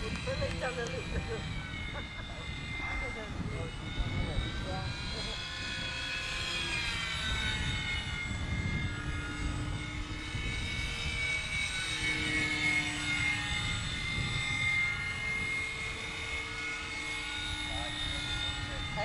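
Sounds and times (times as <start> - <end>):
model plane motor whine: 0.0 - 19.0
wind buffeting microphone: 0.0 - 19.0.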